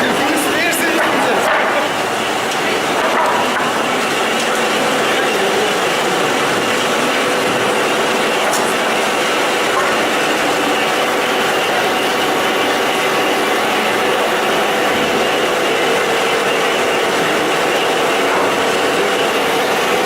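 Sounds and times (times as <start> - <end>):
sawing machine running: 0.0 - 20.0.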